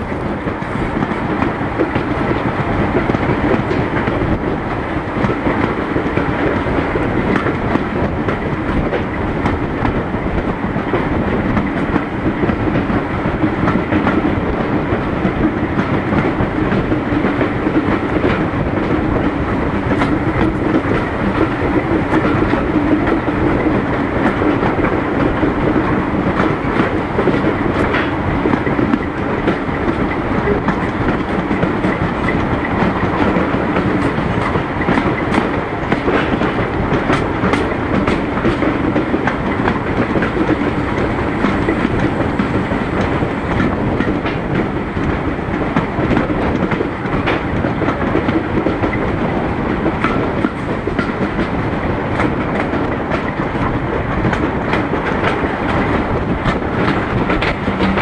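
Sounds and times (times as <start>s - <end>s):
train wheels rumbling on track: 0.0s - 58.0s
wheels clicking over rail joints: 0.0s - 58.0s.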